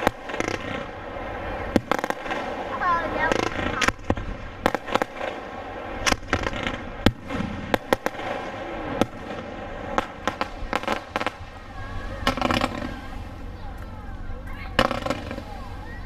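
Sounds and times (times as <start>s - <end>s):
fireworks bursting with sharp bangs: 0.0s - 16.0s.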